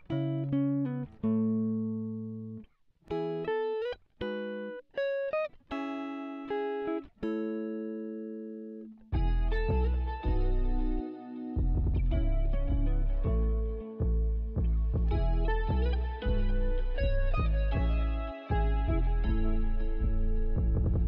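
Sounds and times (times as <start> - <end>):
guitar playing slow notes: 0.0 - 21.0.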